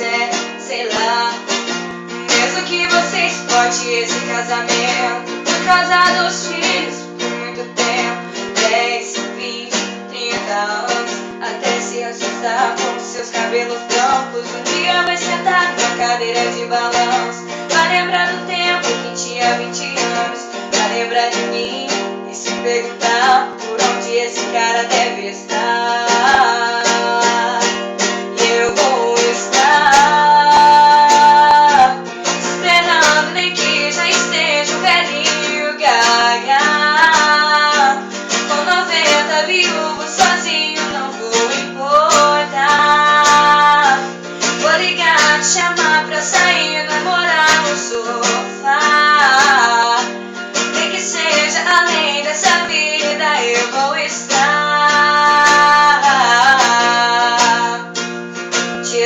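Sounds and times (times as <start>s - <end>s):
strummed guitar: 0.0s - 59.0s
woman singing: 0.0s - 59.0s.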